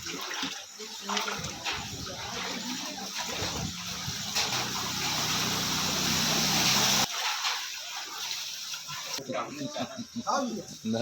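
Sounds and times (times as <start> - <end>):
floodwater rushing and splashing: 0.0 - 9.2.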